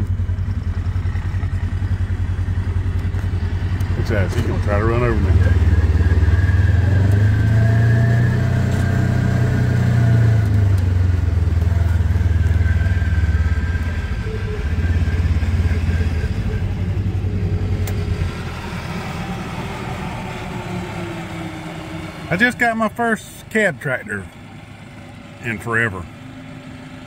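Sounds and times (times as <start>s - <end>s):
farm tractor engine running: 0.0s - 27.0s.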